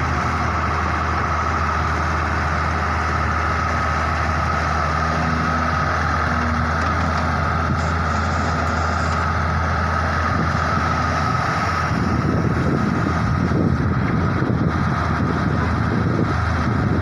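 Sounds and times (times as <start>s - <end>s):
diesel engine running: 0.0s - 17.0s
high hydraulic whine: 0.0s - 17.0s.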